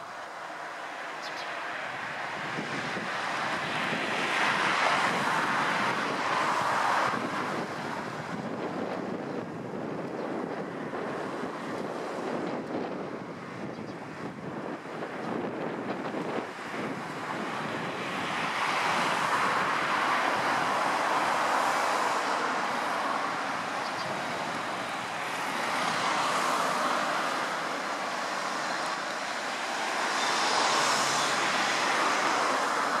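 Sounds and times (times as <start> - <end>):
rushing outdoor background noise: 0.0 - 33.0.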